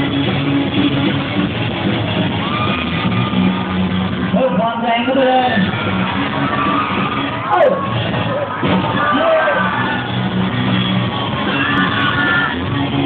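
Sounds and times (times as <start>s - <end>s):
live rock music: 0.0s - 13.0s
voices yelling and singing: 2.3s - 13.0s.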